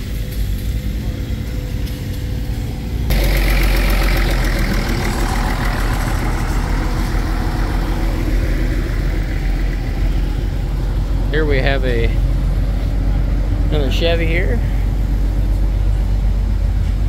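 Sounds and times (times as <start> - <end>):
engine running steadily: 0.0 - 17.0
loud rushing noise: 0.0 - 17.0.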